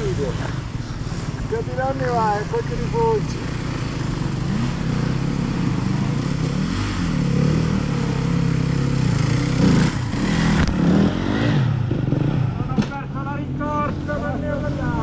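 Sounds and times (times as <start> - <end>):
dirt bike engines idling: 0.0 - 15.0.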